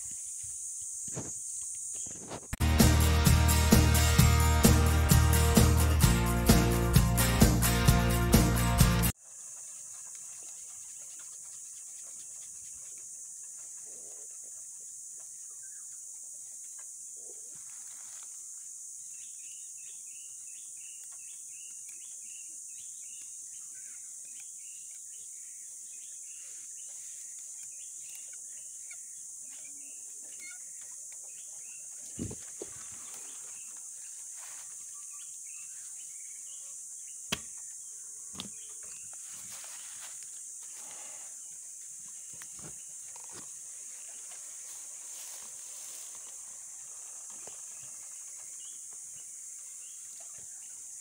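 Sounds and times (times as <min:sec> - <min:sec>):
insects droning: 0:00.0 - 0:02.6, 0:09.1 - 0:51.0.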